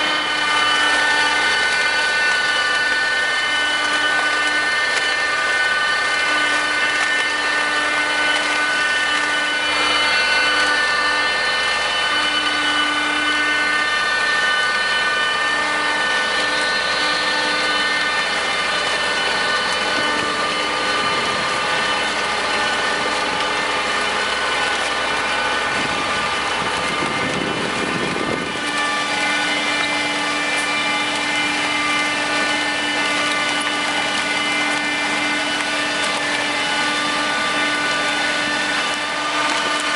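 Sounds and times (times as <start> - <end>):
harvester machinery drone: 0.0 - 39.9
whining tones: 0.0 - 39.9.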